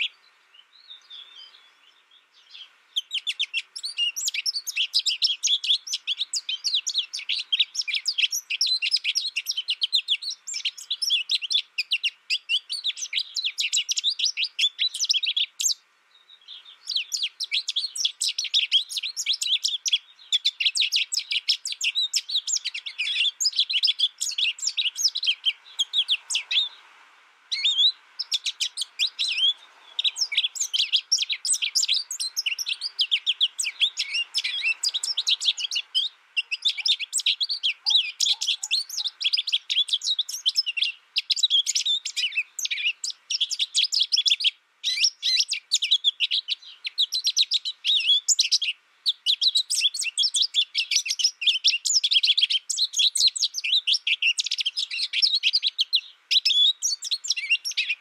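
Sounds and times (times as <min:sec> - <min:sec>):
goldfinch twittering song: 0:00.0 - 0:26.8, 0:27.5 - 0:58.0.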